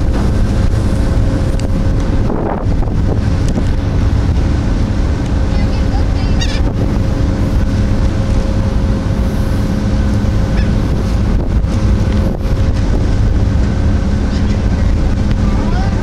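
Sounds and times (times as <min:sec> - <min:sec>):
constant hum: 0:00.0 - 0:16.0
ferry engines droning: 0:00.0 - 0:16.0
wind buffeting microphone: 0:00.0 - 0:16.0.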